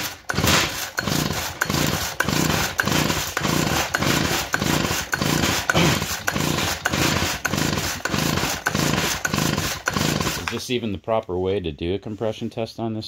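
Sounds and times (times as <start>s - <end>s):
recoil starter pulls cranking engine: 0.0s - 10.7s.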